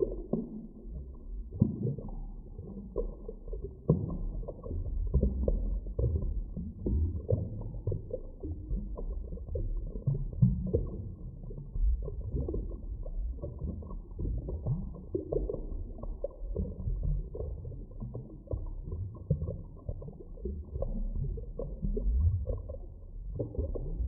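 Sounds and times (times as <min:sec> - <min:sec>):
underwater gurgles and pops: 0:00.0 - 0:24.0
underwater rumble of moving water: 0:00.0 - 0:24.0.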